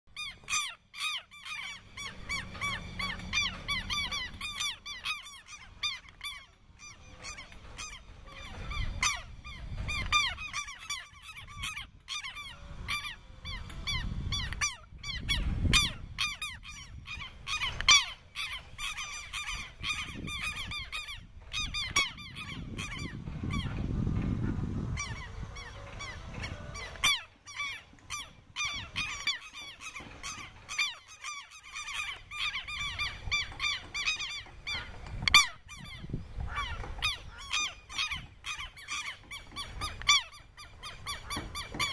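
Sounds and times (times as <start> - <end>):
birds calling: 0.1 - 41.9
wind rumble on microphone: 1.8 - 27.4, 28.0 - 30.8, 31.9 - 41.9.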